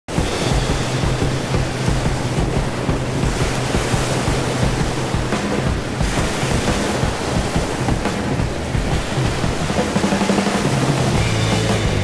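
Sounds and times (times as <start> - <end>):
waves breaking on beach: 0.1 - 12.0
wind buffeting microphone: 0.1 - 12.0.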